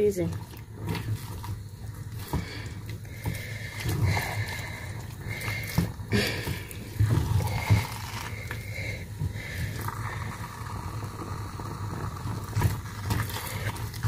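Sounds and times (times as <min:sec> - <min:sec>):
steady low hum: 0:00.0 - 0:14.0
wooden spoon stirring sticky dough: 0:00.0 - 0:14.0.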